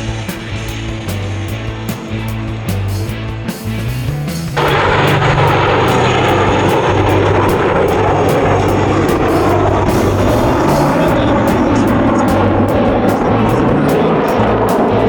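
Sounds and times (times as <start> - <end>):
aircraft engine noise: 0.0 - 15.0
background music with a beat: 0.0 - 15.0.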